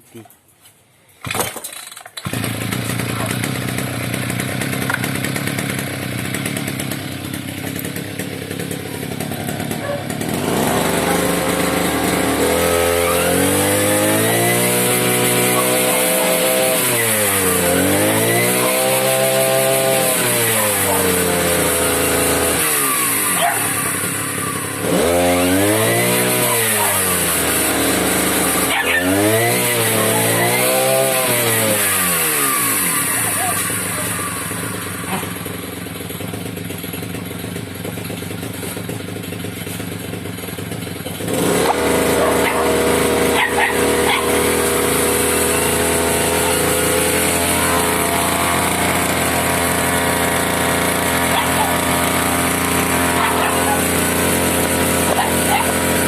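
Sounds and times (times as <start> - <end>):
brush cutter engine revving: 1.2 - 56.0.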